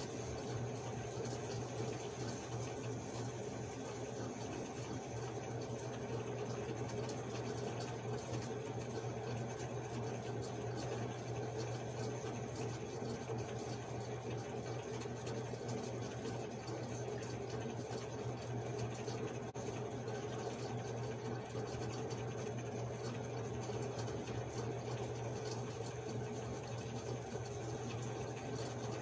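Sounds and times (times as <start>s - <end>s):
low machine hum with hiss: 0.0s - 29.0s.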